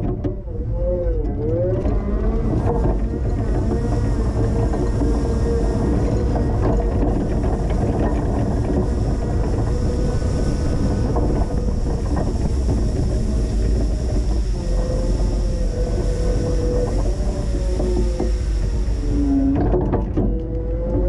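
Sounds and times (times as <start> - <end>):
forklift humming: 0.0 - 21.0.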